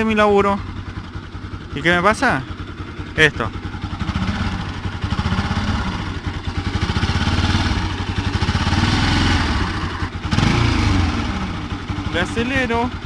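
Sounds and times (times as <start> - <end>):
abnormal engine noise: 0.0 - 13.0
motorcycle engine idling: 0.0 - 13.0.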